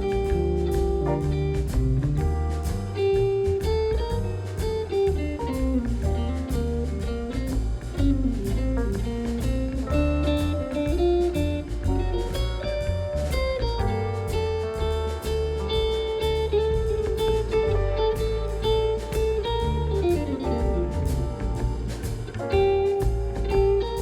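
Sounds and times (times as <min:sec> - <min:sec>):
bass line: 0:00.0 - 0:24.0
guitar melody: 0:00.0 - 0:24.0
steady beat: 0:00.0 - 0:24.0.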